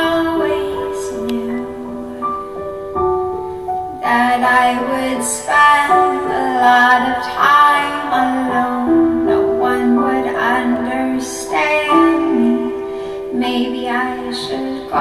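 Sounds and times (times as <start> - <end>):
woman singing: 0.0 - 2.7, 4.0 - 15.0
piano accompaniment: 0.0 - 15.0.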